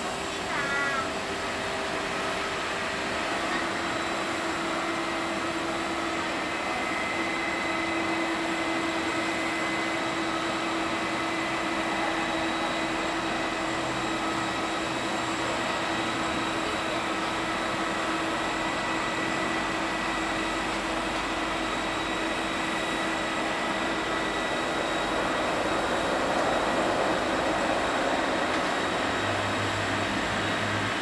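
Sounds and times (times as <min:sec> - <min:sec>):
jet engines whining: 0:00.0 - 0:31.0.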